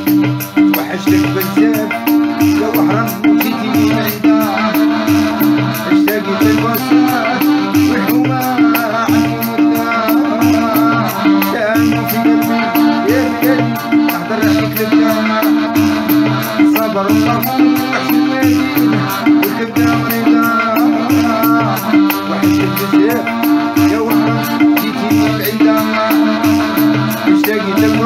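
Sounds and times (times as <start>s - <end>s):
accordion melody: 0.0s - 28.0s
pulsing bass beat: 0.0s - 28.0s.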